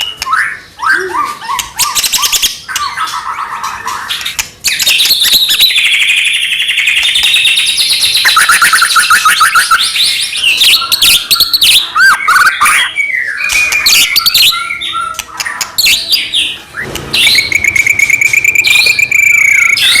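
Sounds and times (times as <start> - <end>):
rapid bird trill: 0.0 - 20.0
songbird whistling song: 0.0 - 20.0.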